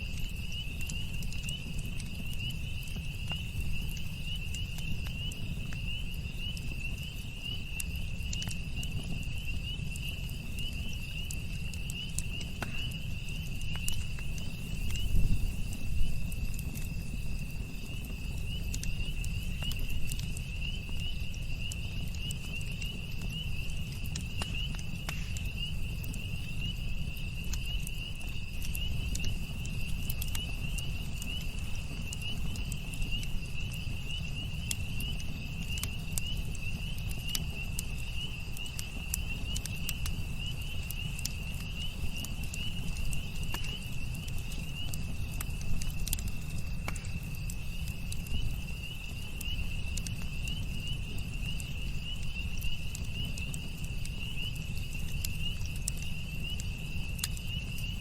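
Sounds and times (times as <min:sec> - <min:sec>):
campfire crackling: 0:00.0 - 0:58.0
insect trill: 0:00.0 - 0:58.0.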